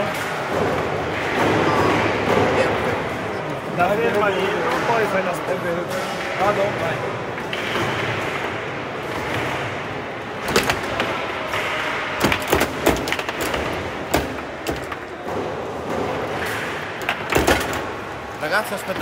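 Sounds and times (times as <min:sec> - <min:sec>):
background murmur: 0:00.0 - 0:19.0
foosball rods and men clacking: 0:00.0 - 0:19.0.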